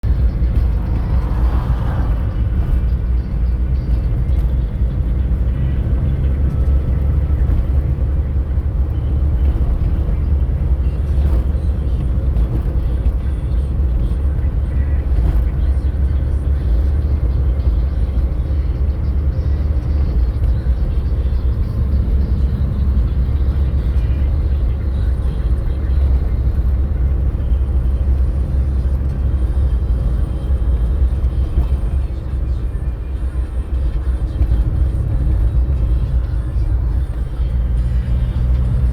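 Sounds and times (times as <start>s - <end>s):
car driving rumble: 0.0s - 38.9s.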